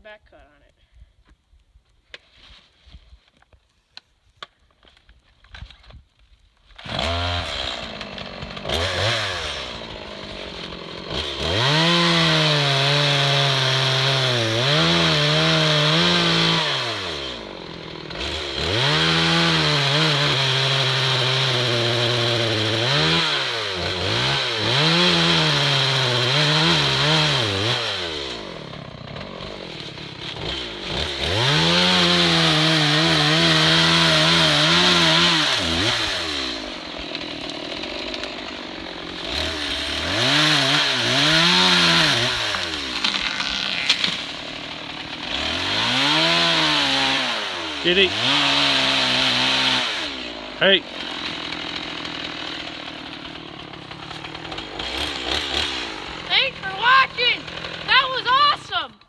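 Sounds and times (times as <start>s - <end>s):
chainsaw cutting wood: 4.5s - 59.0s.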